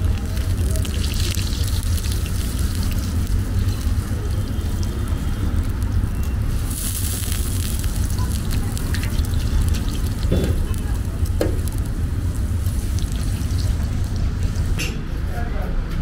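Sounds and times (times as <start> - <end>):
sizzling hiss: 0.0 - 14.8
kitchen low rumble: 0.0 - 16.0.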